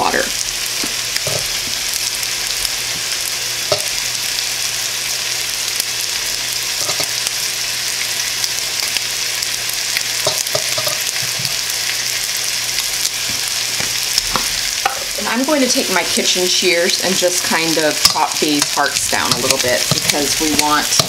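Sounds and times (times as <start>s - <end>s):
chicken sizzling in a skillet: 0.0s - 21.0s.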